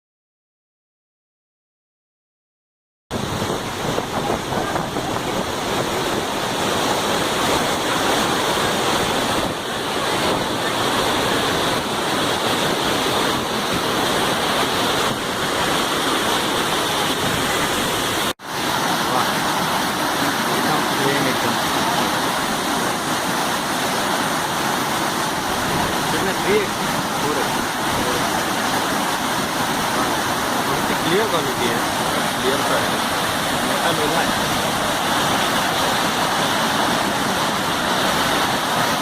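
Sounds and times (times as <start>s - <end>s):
water rushing over dam: 3.1s - 39.0s.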